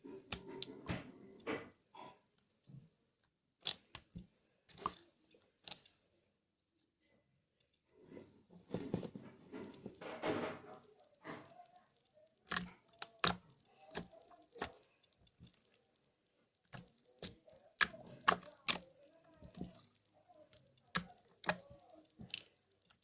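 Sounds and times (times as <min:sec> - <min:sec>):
slime squishing: 0:00.0 - 0:02.6, 0:03.6 - 0:06.1, 0:08.1 - 0:23.0.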